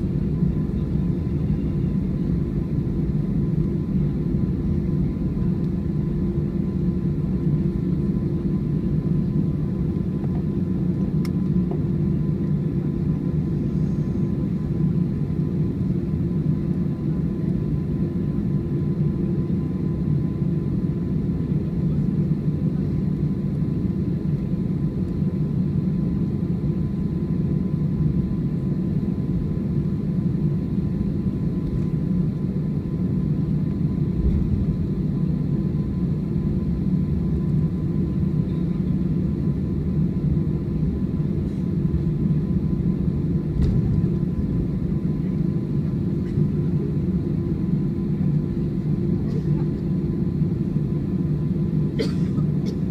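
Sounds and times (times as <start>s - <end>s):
jet engines idling rumble: 0.0s - 52.9s.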